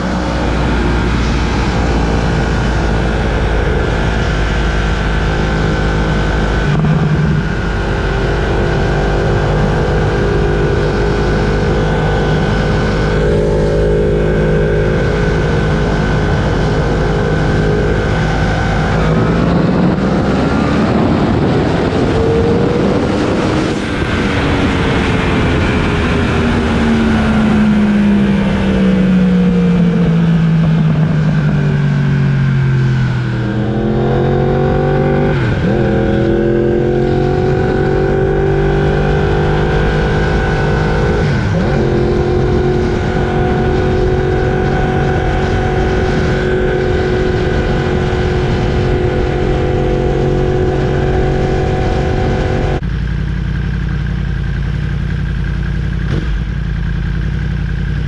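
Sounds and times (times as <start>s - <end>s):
wind rush on microphone: 0.0s - 52.8s
motorcycle engine: 0.0s - 58.0s.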